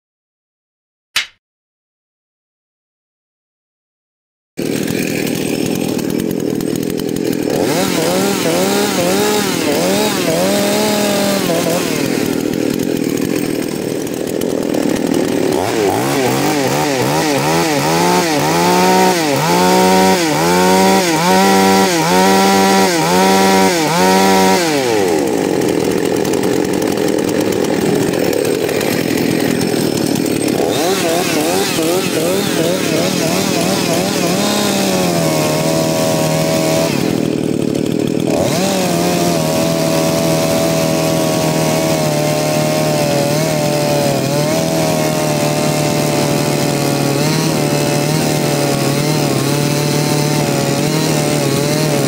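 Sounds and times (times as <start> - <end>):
chainsaw revving: 4.6 - 52.0.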